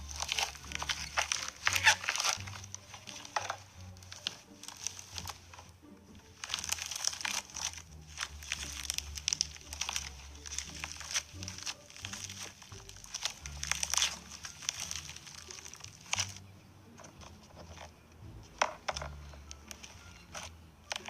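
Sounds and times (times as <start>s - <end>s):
slime crackling and popping: 0.0s - 5.7s, 6.3s - 16.4s, 18.6s - 21.0s.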